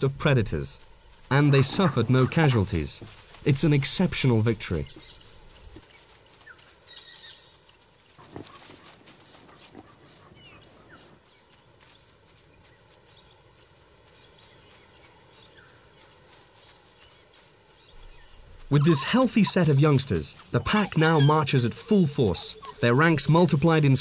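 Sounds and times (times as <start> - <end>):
soft footfalls in grass: 0.0 - 24.0.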